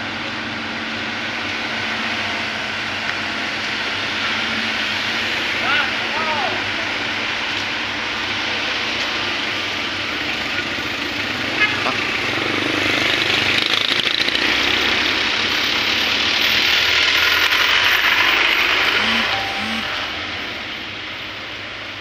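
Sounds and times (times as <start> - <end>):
heavy vehicle engine: 0.0 - 22.0.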